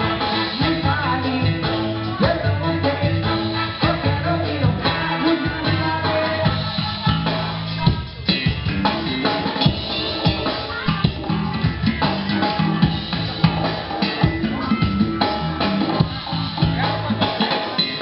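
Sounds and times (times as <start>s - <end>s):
live band playing: 0.0s - 18.0s
drum kit hits: 3.0s - 18.0s.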